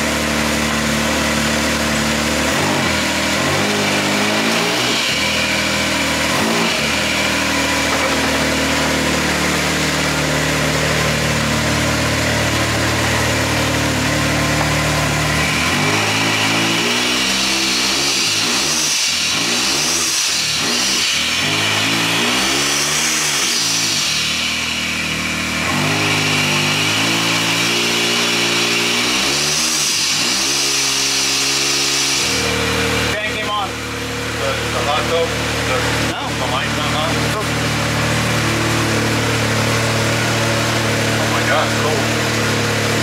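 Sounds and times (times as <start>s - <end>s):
engine idling and revving: 0.0s - 43.0s.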